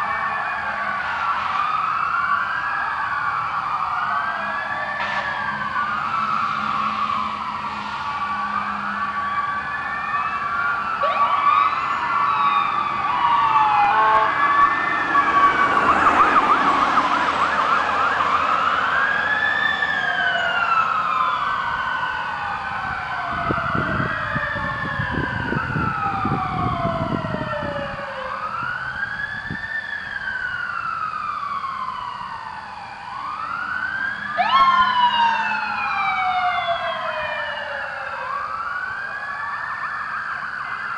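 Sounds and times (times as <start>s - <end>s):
fire truck sirens wailing: 0.0s - 40.9s.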